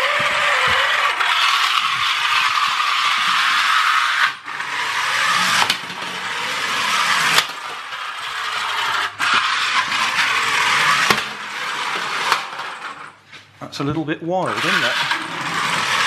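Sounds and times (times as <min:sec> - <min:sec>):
toy motor gears whirring: 0:00.0 - 0:13.2, 0:14.5 - 0:16.0.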